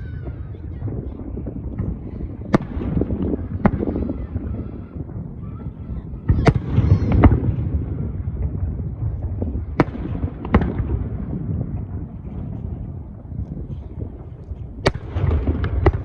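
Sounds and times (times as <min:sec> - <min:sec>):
low rumble of echoing bursts: 0:00.0 - 0:16.0.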